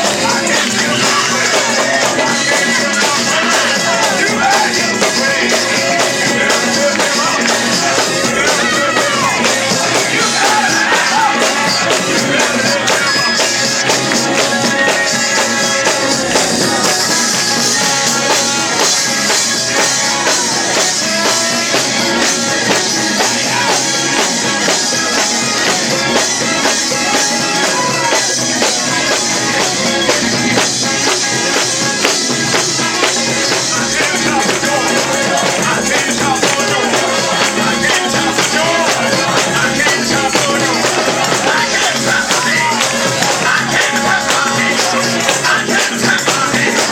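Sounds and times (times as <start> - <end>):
gospel band playing: 0.0 - 46.9
people singing: 0.0 - 46.9
tambourine: 0.0 - 46.9.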